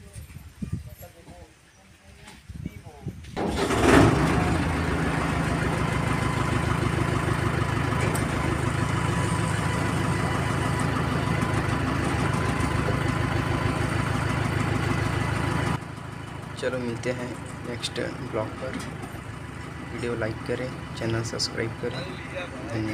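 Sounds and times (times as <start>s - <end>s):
diesel engine idling: 3.4s - 22.9s.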